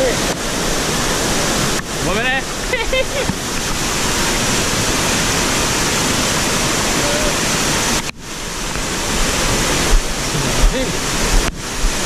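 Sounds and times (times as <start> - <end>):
river rapid rushing: 0.0 - 12.0.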